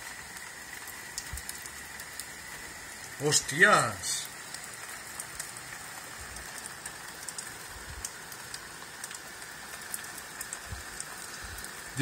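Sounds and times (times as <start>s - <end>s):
heavy rain hissing: 0.0s - 12.0s
drops ticking on window: 0.3s - 3.2s, 4.2s - 11.7s.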